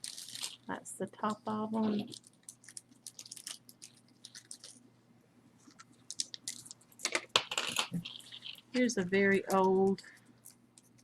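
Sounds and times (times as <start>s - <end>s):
packaging crinkling: 0.0s - 0.7s, 1.8s - 4.9s, 5.6s - 11.0s.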